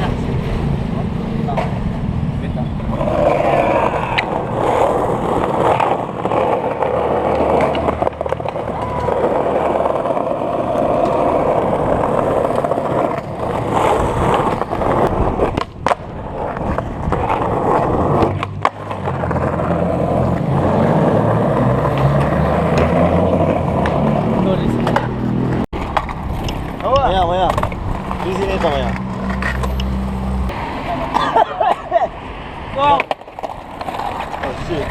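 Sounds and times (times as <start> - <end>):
skateboard wheels rolling on pavement: 0.0 - 34.9
skateboard clacks: 1.4 - 29.9, 32.7 - 34.9.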